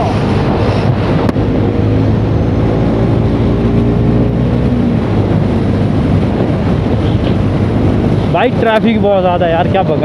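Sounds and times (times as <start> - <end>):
motorcycle engine accelerating: 0.0 - 8.5
wind rush on microphone: 0.0 - 10.0.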